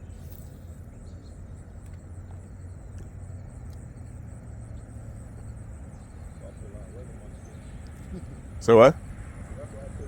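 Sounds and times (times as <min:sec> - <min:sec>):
high insect-like chirp: 0:00.0 - 0:10.0.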